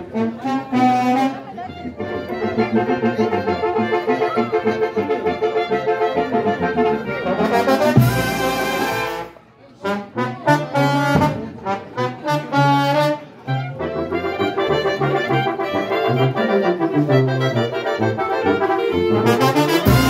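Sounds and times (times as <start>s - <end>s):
brass band playing: 0.0s - 20.0s.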